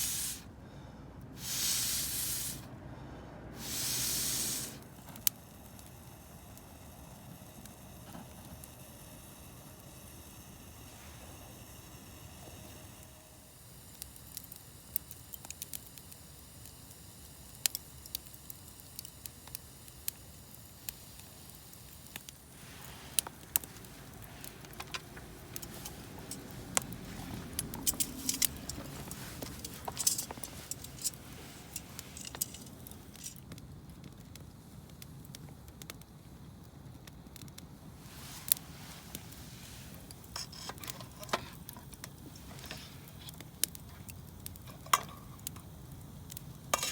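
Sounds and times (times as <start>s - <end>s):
wood fire crackling: 0.0s - 2.7s, 3.5s - 46.9s.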